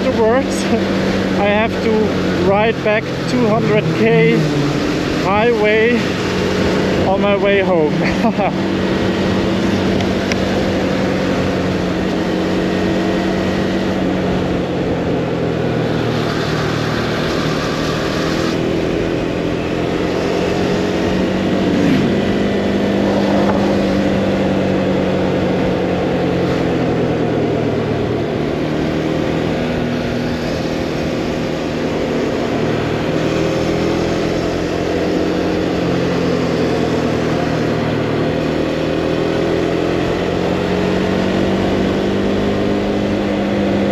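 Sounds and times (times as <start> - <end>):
motorcycle engine running: 0.0 - 43.9
wind and road noise: 0.0 - 43.9.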